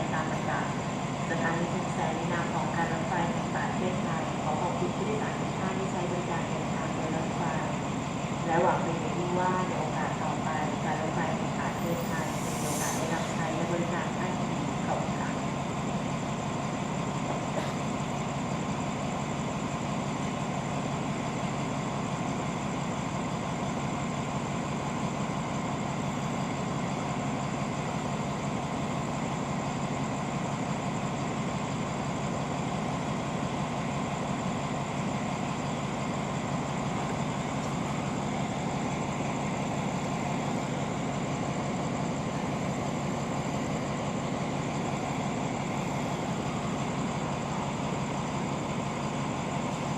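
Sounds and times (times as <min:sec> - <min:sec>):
diesel train engine idling: 0:00.0 - 0:49.9.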